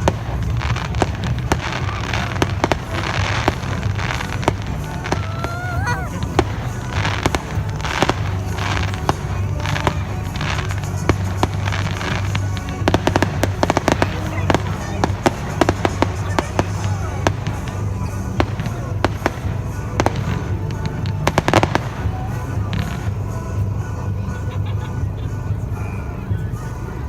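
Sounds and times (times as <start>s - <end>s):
fireworks bangs and crackling: 0.0s - 25.6s.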